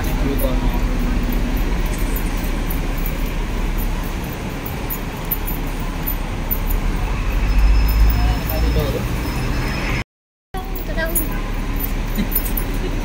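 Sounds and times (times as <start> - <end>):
bus engine: 0.0 - 10.0, 10.6 - 13.0
street traffic rumble: 0.0 - 10.0, 10.6 - 13.0.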